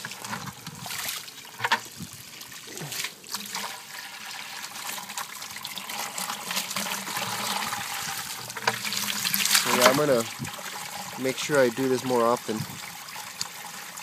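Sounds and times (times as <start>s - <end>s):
water running into a bucket: 0.0s - 14.0s.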